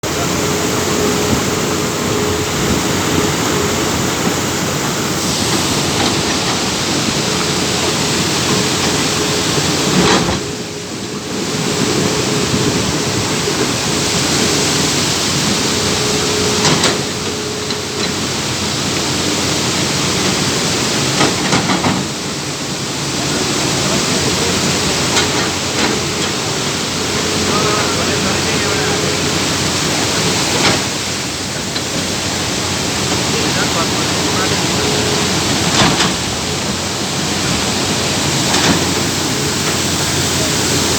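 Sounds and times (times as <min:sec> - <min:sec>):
excavator engine and hydraulics drone: 0:00.0 - 0:40.9.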